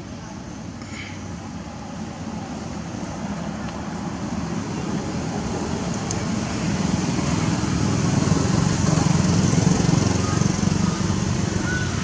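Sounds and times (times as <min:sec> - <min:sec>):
vehicle engine rumble: 0:00.7 - 0:12.0.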